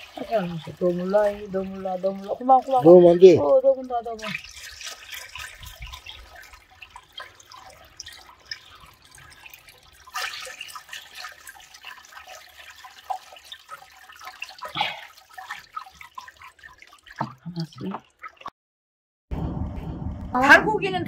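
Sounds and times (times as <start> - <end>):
water sloshing and dripping: 0.0 - 18.5
water splash: 0.0 - 18.5
hands squeezing powder in water: 1.6 - 18.5.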